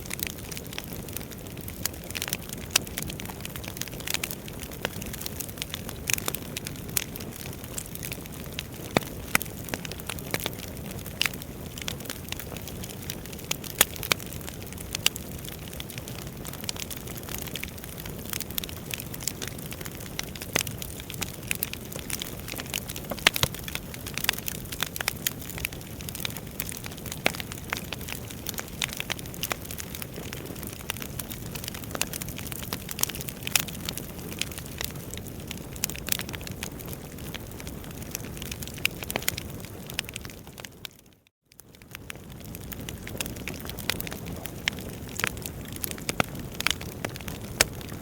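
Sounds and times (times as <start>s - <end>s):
burning logs crackling: 0.0s - 48.0s.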